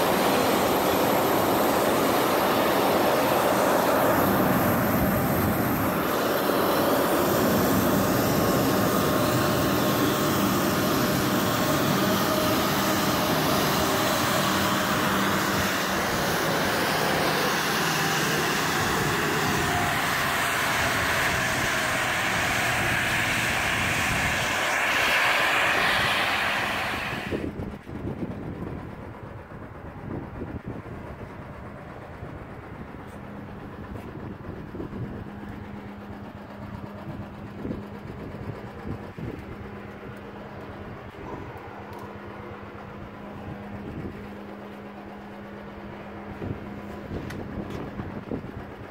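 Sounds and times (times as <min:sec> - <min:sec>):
jet turbines running: 0:00.0 - 0:48.9.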